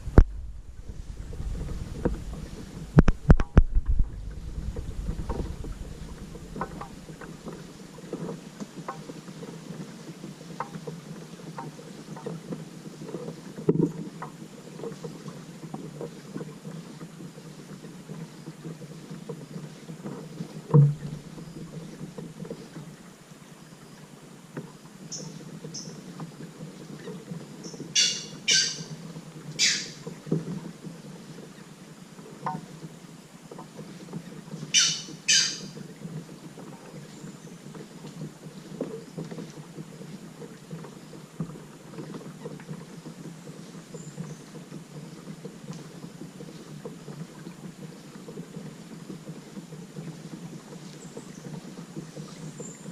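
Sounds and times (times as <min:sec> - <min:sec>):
paddle knocking hull: 0:00.0 - 0:23.1, 0:24.4 - 0:52.9
paddling water noise: 0:00.0 - 0:52.9.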